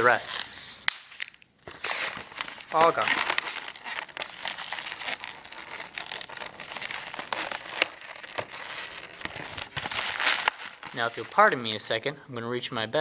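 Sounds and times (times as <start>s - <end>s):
balloons rubbing and crackling: 0.0s - 0.9s, 1.6s - 11.8s.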